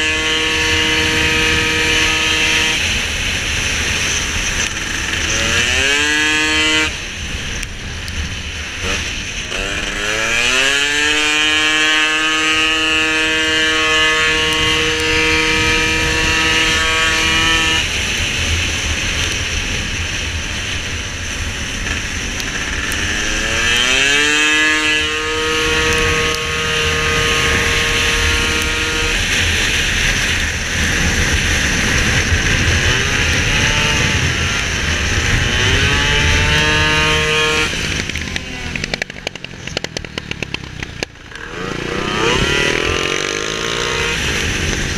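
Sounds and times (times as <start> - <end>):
scooter engine revving high: 0.0 - 44.9
wind and road noise: 0.0 - 44.9.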